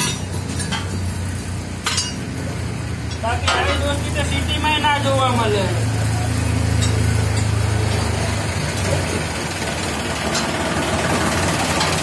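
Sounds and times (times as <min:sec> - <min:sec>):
tractor engine idling: 0:00.1 - 0:12.0.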